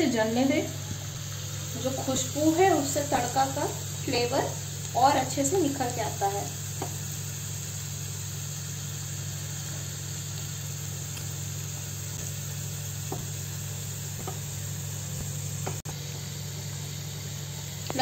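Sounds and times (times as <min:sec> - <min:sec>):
garlic sizzling in oil: 0:00.0 - 0:18.0.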